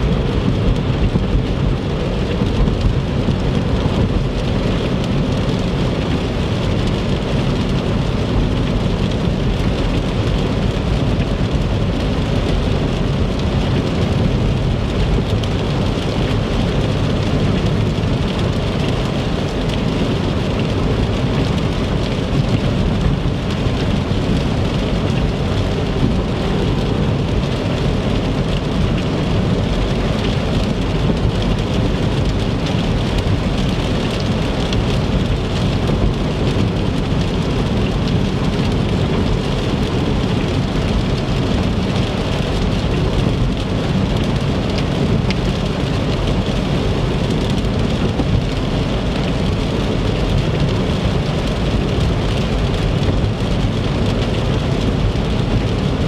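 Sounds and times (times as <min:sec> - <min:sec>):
rain on a car: 0:00.0 - 0:56.0
road and tyre rumble: 0:00.0 - 0:56.0.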